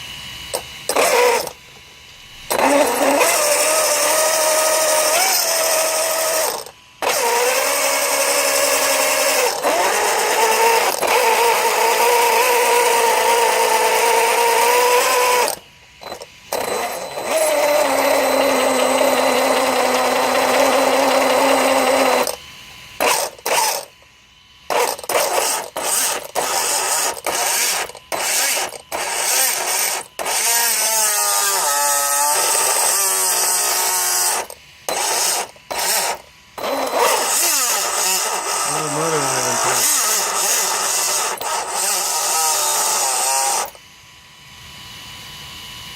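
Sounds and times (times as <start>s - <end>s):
electric motor whining: 0.4s - 1.6s, 2.2s - 22.4s, 23.0s - 24.1s, 24.7s - 43.8s.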